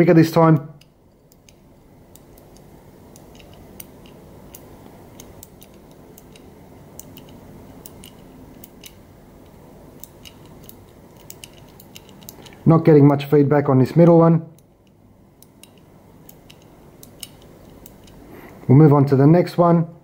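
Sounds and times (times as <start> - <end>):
combination lock wheels clicking: 0.6 - 13.2, 14.6 - 18.2.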